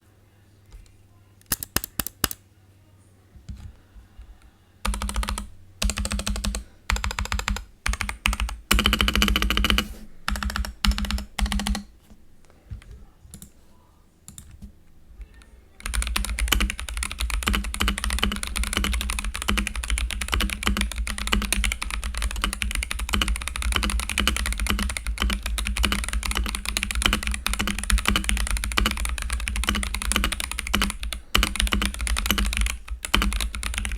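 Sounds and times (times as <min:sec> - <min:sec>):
mechanical keyboard typing: 0:01.5 - 0:02.4, 0:04.8 - 0:11.9, 0:12.8 - 0:13.5, 0:14.3 - 0:33.9.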